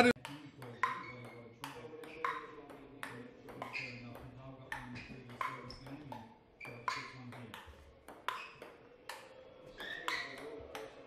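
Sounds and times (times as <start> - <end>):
ping-pong ball hits: 0.0 - 11.0.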